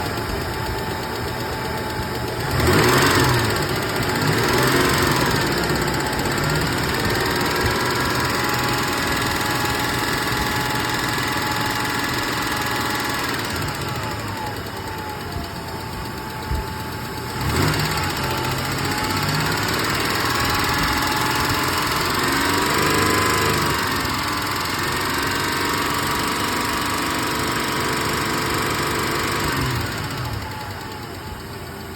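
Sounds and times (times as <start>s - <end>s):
engine running with ticking: 0.0s - 31.9s.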